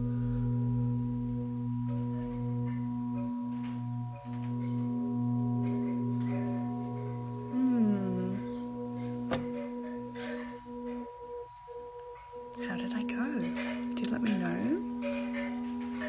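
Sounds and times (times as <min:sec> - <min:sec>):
meditation drone of steady tones: 0:00.0 - 0:16.0.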